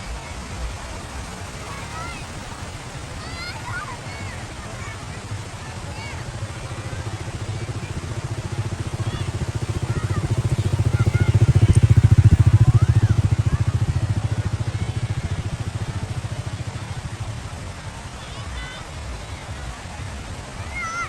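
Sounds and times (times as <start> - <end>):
motor engine passing by: 0.1 - 20.4.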